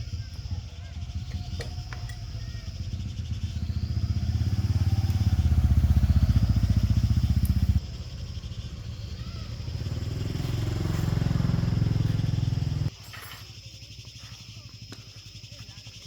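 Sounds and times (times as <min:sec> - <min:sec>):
small engine revving: 0:00.0 - 0:12.9.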